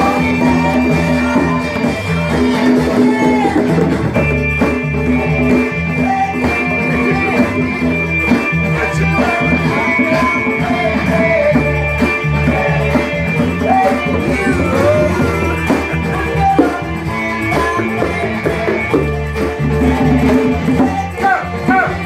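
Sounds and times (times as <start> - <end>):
congas and bongos: 0.0 - 22.0
guitar: 0.0 - 22.0
person singing: 0.0 - 22.0.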